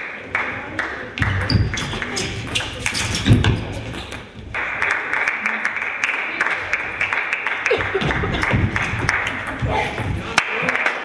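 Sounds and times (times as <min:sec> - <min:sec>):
background hiss in hall: 0:00.0 - 0:11.0.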